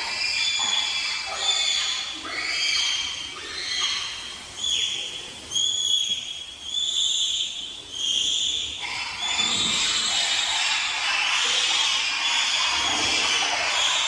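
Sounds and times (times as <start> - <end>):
bonobo high-pitched calls: 0.0 - 14.0.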